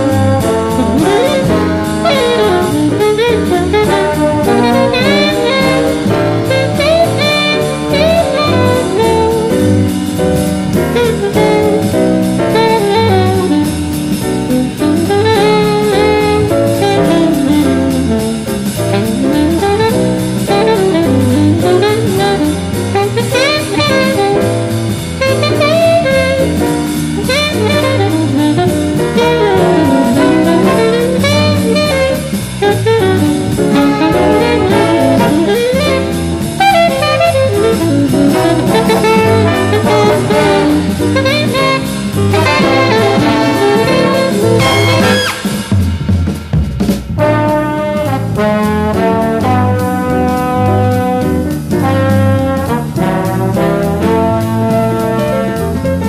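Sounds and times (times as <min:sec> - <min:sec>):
saxophone and brass runs: 0:00.0 - 0:46.0, 0:46.9 - 0:56.0
swinging drum kit: 0:00.0 - 0:56.0.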